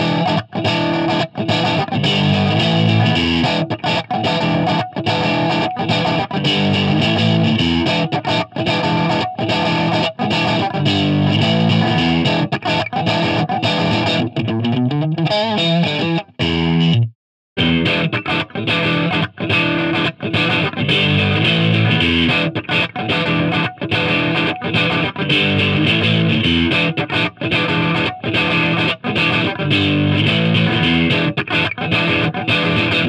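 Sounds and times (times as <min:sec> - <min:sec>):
distorted electric guitar chords: 0:00.0 - 0:33.0.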